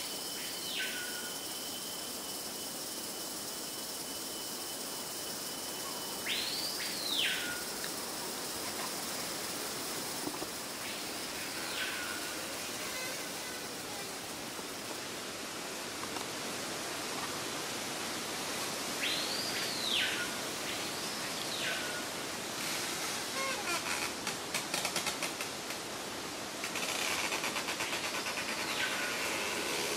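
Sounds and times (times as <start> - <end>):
steady forest hiss: 0.0 - 29.9.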